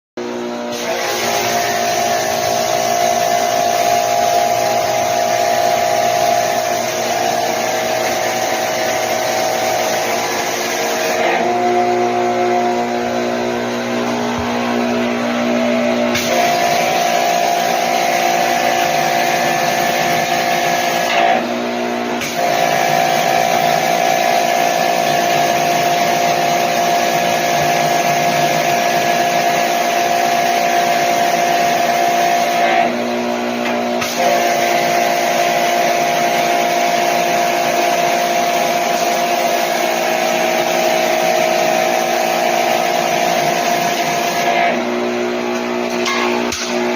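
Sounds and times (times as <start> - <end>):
pressure washer motor humming: 0.2 - 46.9.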